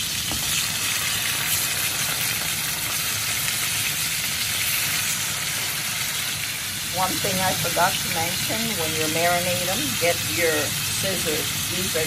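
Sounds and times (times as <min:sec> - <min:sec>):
pork chops sizzling in frying pan: 0:00.0 - 0:12.0.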